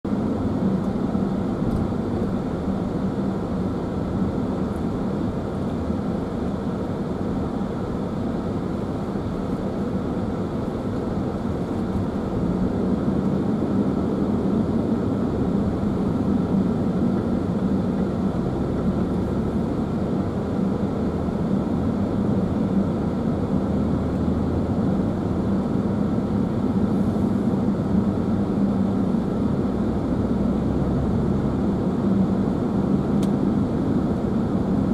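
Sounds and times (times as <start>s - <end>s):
car road noise: 0.1s - 34.9s.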